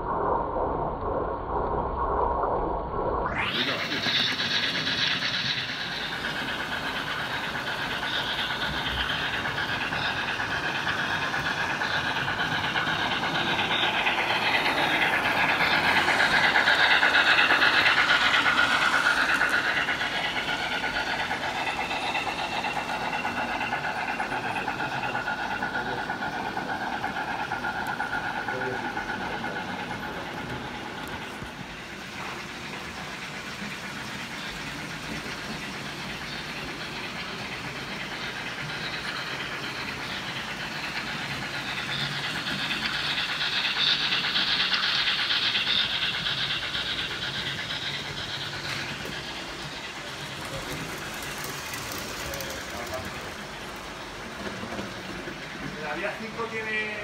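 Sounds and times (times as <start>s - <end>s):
model train clattering on rails: 3.5s - 57.0s.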